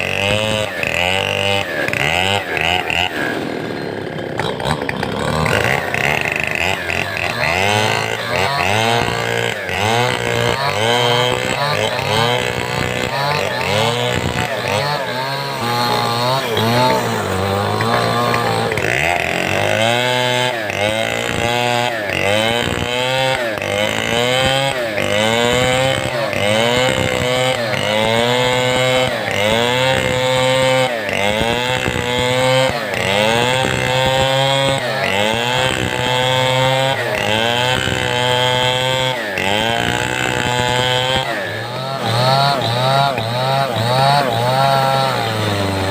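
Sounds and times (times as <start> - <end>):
chainsaw cutting timber: 0.0 - 45.9.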